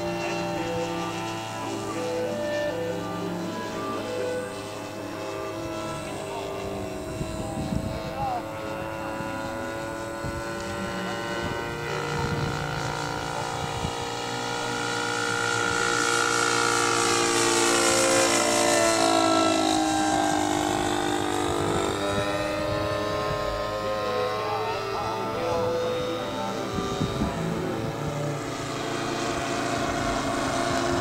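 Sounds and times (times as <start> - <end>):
model airplane motor whining: 0.0 - 31.0.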